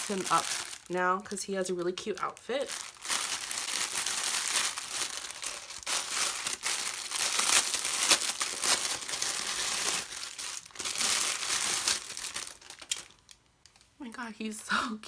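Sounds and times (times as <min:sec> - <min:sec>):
packaging crinkling: 0:00.0 - 0:13.8.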